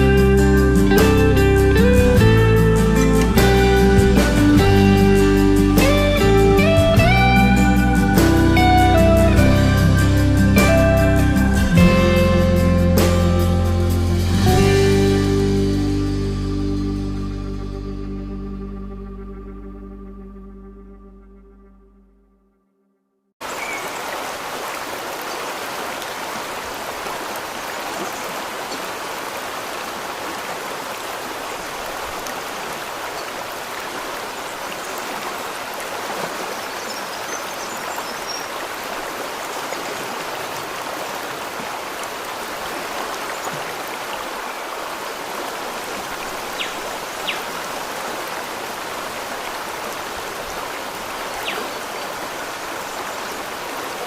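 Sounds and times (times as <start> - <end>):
water flowing: 0.0 - 16.5, 23.4 - 54.0.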